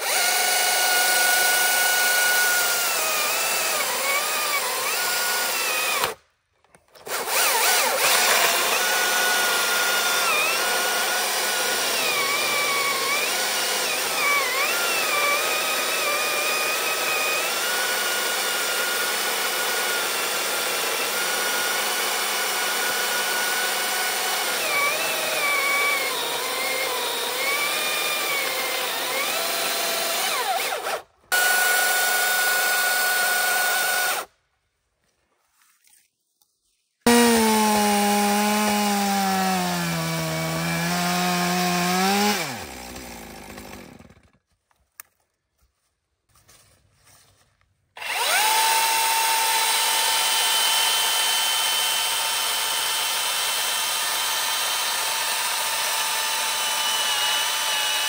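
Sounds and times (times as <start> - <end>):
electric chainsaw cutting log: 0.0 - 6.2, 7.0 - 34.3, 37.1 - 44.4, 48.0 - 58.0.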